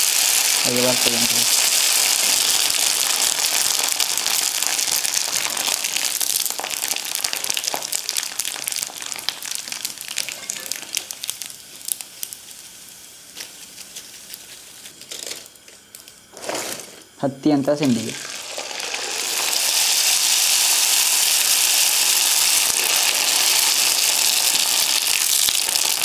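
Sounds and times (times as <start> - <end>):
food deep-frying in oil: 0.0 - 17.2, 17.8 - 26.0.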